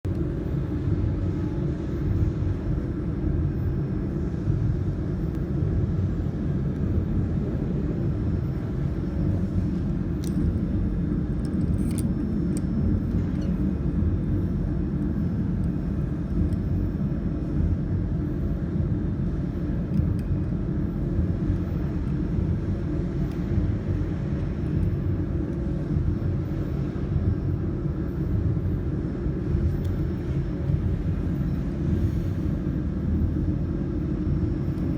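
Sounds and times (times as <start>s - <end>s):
low mechanical rumble: 0.0s - 34.9s.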